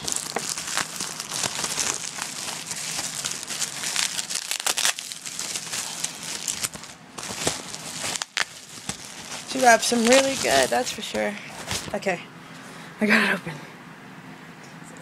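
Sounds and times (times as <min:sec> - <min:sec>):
packaging wrap crinkling: 0:00.0 - 0:12.0.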